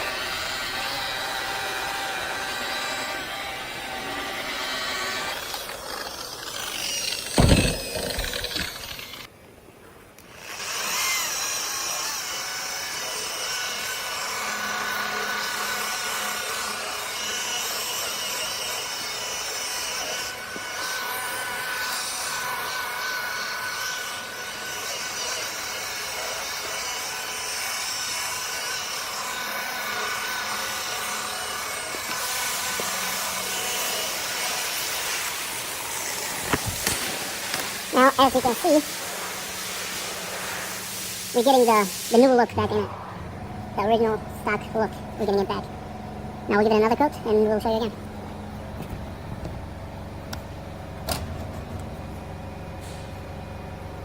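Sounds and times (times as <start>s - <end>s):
electric buffer whirring: 0.0s - 9.3s, 10.1s - 54.0s.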